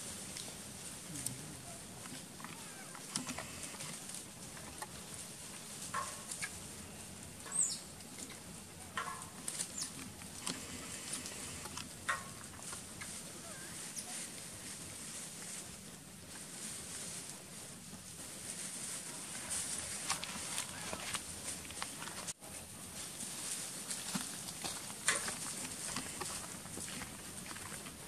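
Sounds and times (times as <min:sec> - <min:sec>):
rustles in dry leaves: 0:00.0 - 0:28.0.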